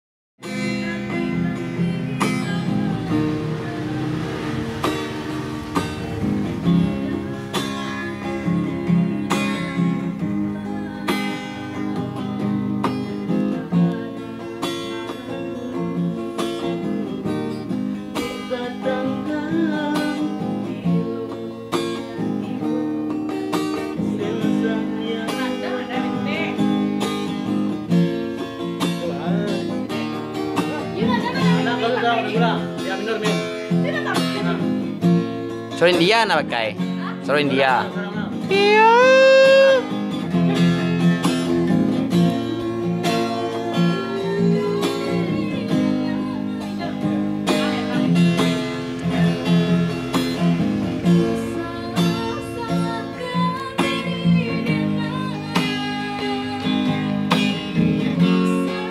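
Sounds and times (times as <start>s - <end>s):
woman singing: 0.4s - 5.0s, 6.5s - 27.1s, 30.3s - 32.6s, 38.1s - 58.9s
strummed acoustic guitar: 0.4s - 58.9s.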